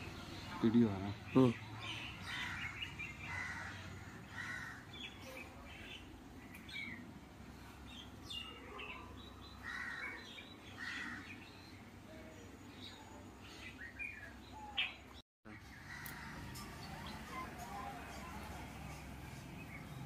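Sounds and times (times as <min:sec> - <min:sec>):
birds making harsh calls: 0:00.0 - 0:07.0, 0:07.8 - 0:20.0.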